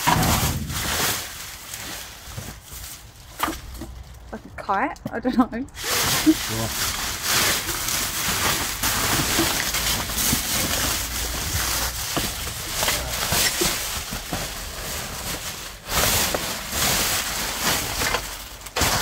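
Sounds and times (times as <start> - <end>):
plastic bags crinkling: 0.0 - 4.4, 5.7 - 19.0.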